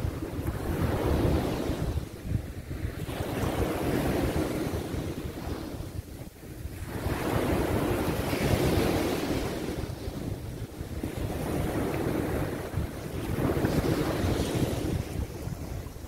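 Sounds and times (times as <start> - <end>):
waves breaking on sandy shore: 0.0 - 16.0
wind rumbling on microphone: 0.0 - 16.0.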